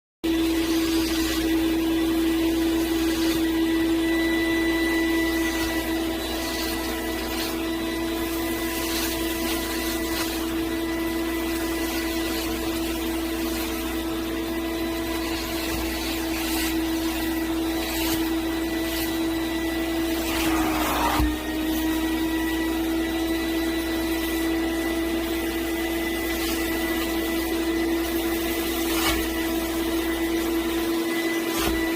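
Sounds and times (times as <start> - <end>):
vacuum machine motor hum: 0.3 - 31.9.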